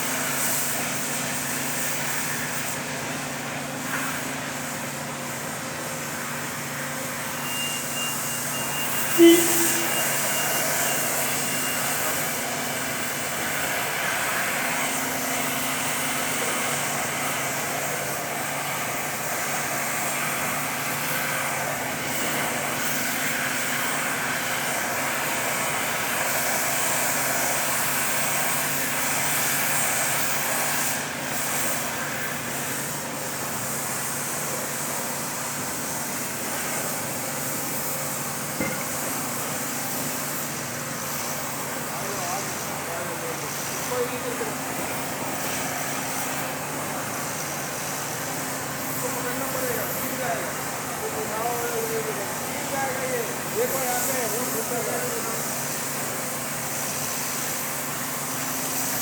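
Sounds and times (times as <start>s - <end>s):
hissing machine noise: 0.0s - 59.0s.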